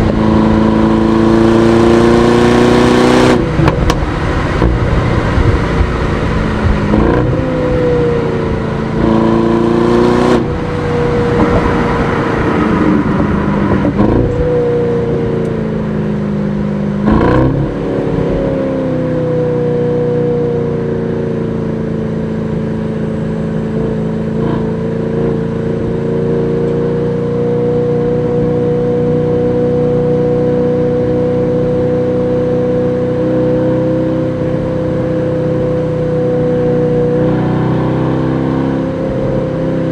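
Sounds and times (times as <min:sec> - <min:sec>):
car engine under way: 0:00.0 - 0:39.9.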